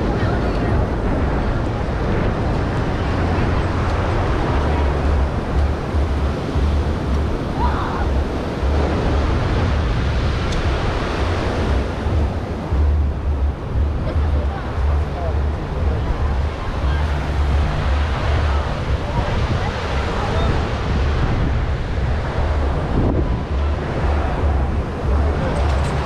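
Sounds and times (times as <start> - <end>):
ocean surf washing onto beach: 0.0 - 26.0
wind rumbling on microphone: 0.0 - 26.0.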